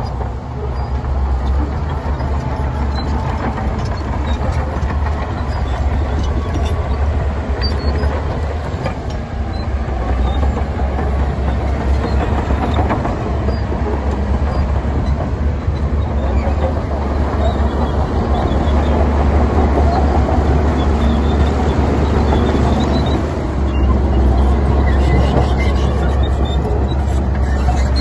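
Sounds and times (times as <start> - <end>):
heavy machinery diesel engine rumbling: 0.0 - 28.0.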